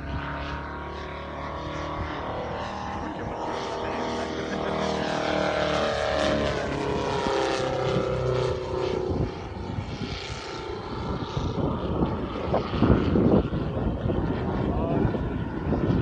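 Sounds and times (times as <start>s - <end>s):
model plane engine passing overhead: 0.0s - 16.0s.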